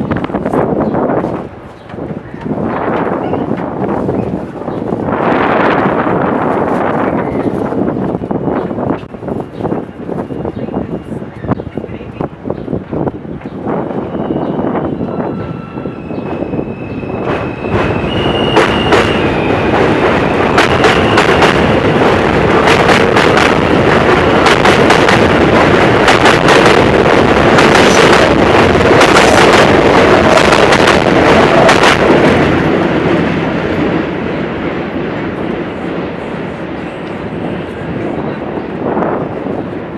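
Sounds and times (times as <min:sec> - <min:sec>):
subway train rumbling by: 0:00.0 - 0:39.9.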